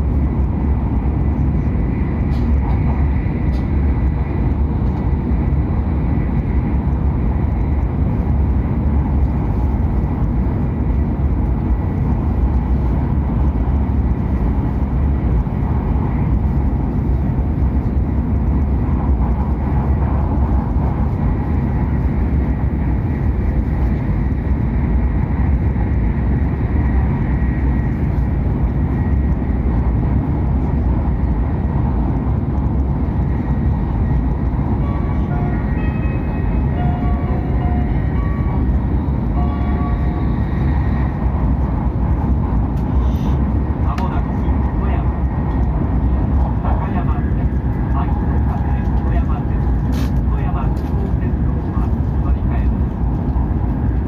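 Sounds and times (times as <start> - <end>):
train deep rumble: 0.0 - 54.0.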